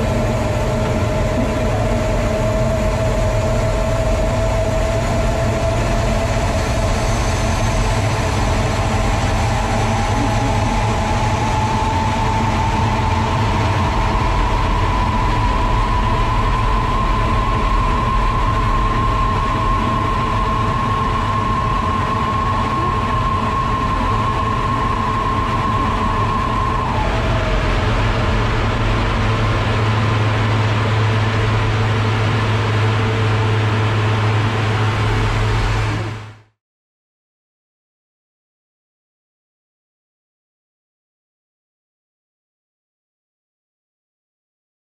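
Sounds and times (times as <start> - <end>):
jet engine and airflow noise: 0.0 - 36.5
steady whine: 0.0 - 36.6.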